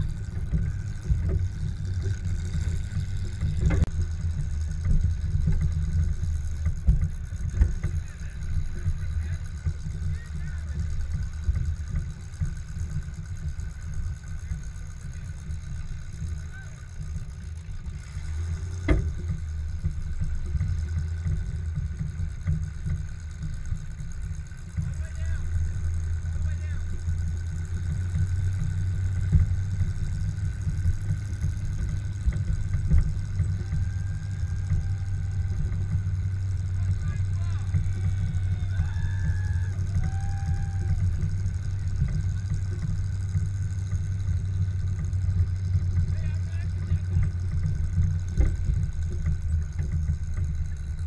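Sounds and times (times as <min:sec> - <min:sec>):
pickup engine low rumble: 0:00.0 - 0:51.0.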